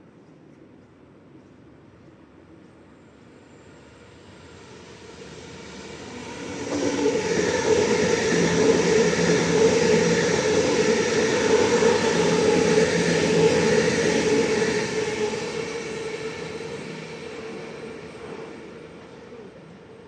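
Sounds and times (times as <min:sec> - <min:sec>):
electric train rumbling: 0:02.8 - 0:20.0.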